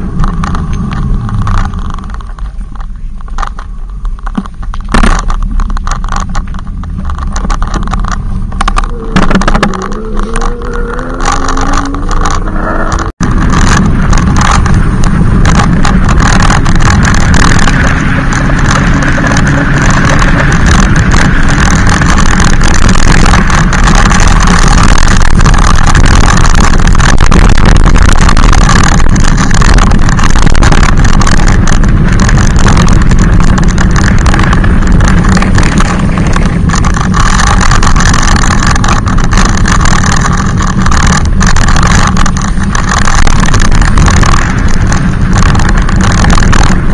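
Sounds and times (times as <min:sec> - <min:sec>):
e-bike motor noise: 0:00.0 - 0:46.9
road and rush noise: 0:00.0 - 0:46.9.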